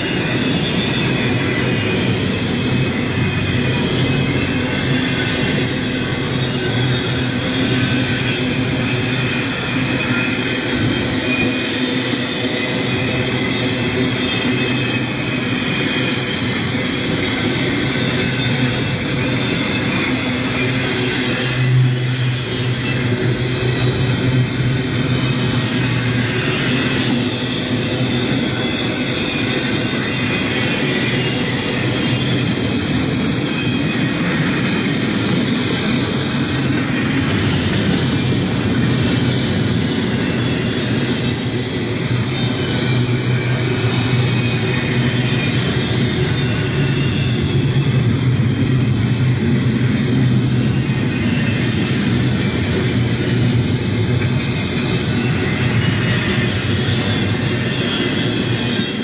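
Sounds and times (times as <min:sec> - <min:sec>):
freight train cars rumbling on rails: 0:00.0 - 0:59.0.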